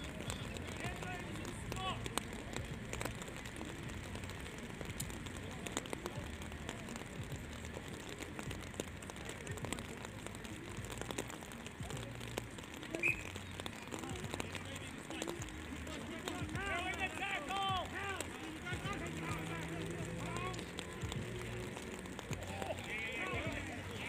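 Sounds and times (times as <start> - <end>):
rain pattering: 0.0 - 24.0.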